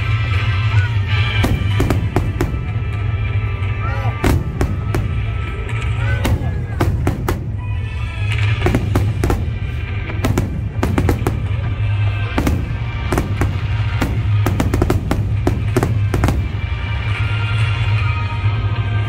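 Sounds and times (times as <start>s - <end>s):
fireworks bangs: 0.1s - 18.2s.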